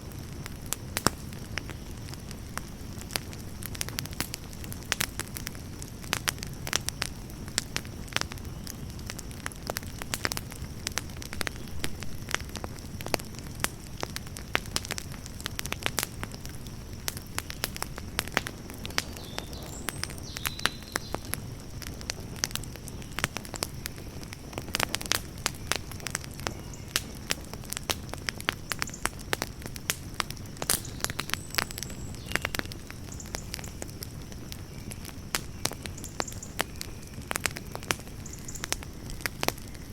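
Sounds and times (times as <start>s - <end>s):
flames rushing: 0.0s - 39.9s
wood crackling and popping: 0.0s - 39.9s.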